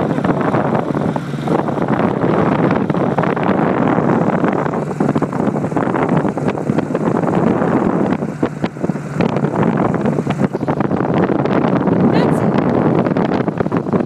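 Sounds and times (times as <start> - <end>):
motorcycle running noise: 0.0 - 14.0
wind buffeting microphone: 0.0 - 14.0.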